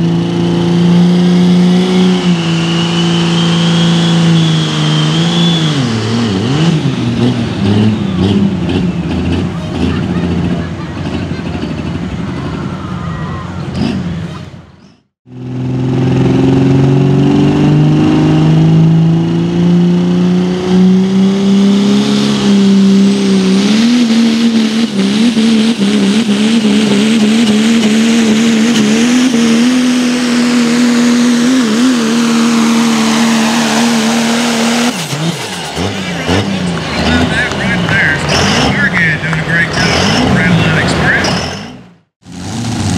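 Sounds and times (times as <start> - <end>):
diesel truck engine revving: 0.0 - 42.9.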